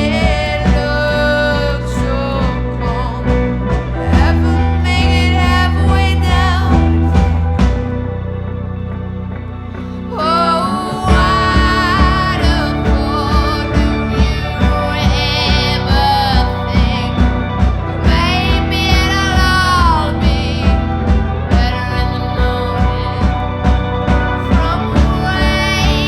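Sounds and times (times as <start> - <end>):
woman singing: 0.0 - 7.9, 9.8 - 26.0
steady drum beat: 0.0 - 8.0, 11.0 - 26.0
bass: 0.0 - 26.0
guitar: 0.0 - 26.0.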